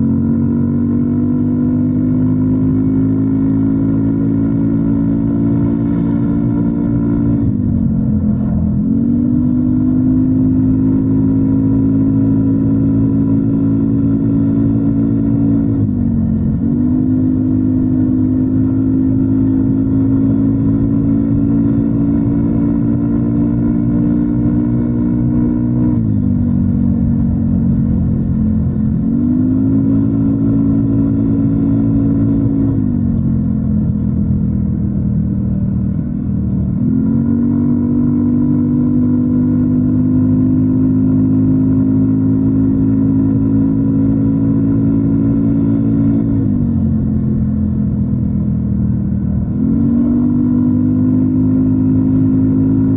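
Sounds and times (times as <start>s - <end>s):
scooter engine cruising: 0.0s - 52.9s.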